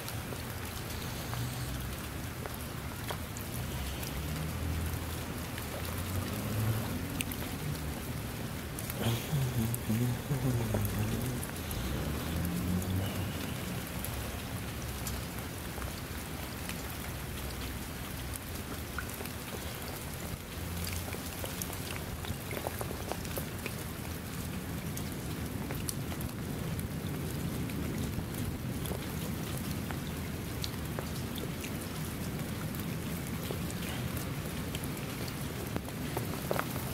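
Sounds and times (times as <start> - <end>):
rain falling on puddle: 0.0 - 36.9.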